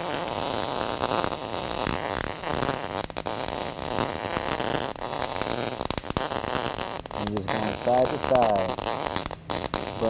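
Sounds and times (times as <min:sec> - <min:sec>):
welding arc crackling: 0:00.0 - 0:10.0.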